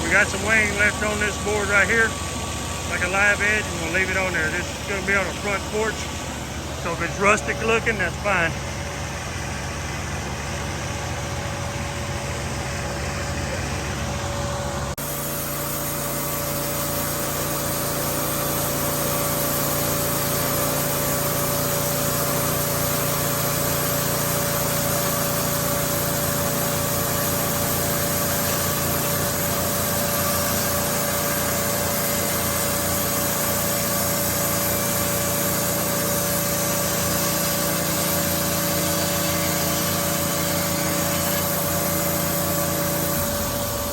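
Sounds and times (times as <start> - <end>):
band saw cutting log: 0.0 - 43.9
sawmill engine running: 0.0 - 43.9.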